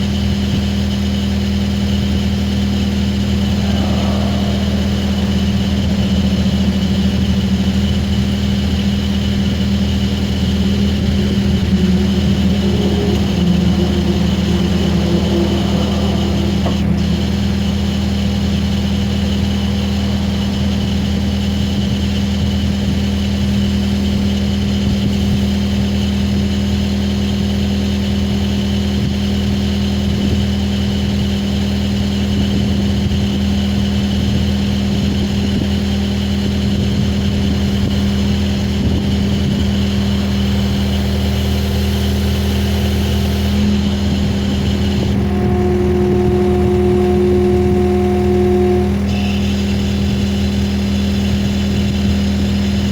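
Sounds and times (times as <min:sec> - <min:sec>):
diesel engine idling: 0:00.0 - 0:52.9
high whine: 0:00.9 - 0:30.4, 0:31.9 - 0:52.9.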